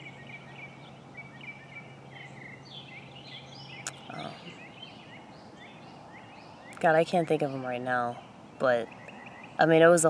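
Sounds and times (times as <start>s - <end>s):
steady low hum: 0.0s - 9.9s
songbirds chirping and twittering: 0.0s - 10.0s.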